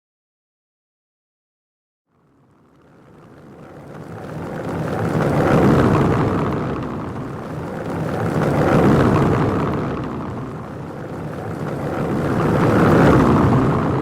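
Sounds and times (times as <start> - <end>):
car tyres rumbling over cobblestones: 2.2 - 14.0.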